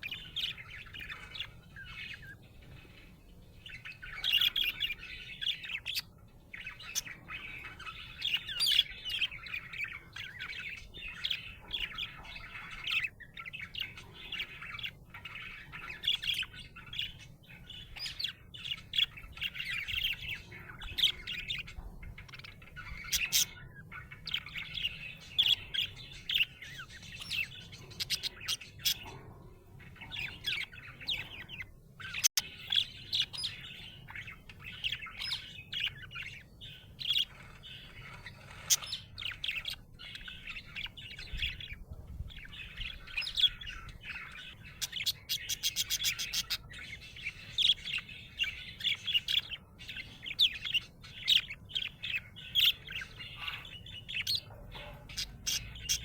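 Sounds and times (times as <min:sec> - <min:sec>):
budgerigar chirping and warbling: 0:00.0 - 0:56.0.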